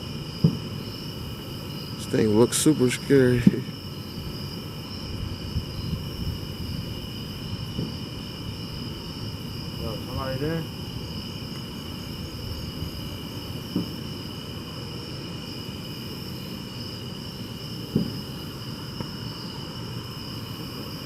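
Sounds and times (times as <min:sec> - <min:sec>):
night insects shrilling: 0:00.0 - 0:21.0.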